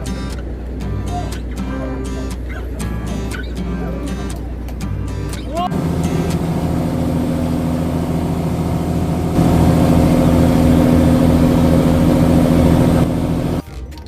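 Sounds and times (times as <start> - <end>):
boat engine humming: 0.0 - 13.6.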